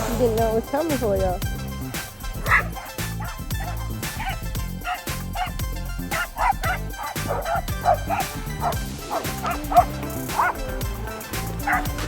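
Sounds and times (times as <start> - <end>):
background music with sustained notes: 0.0 - 12.0
dogs barking and yipping: 0.8 - 12.0.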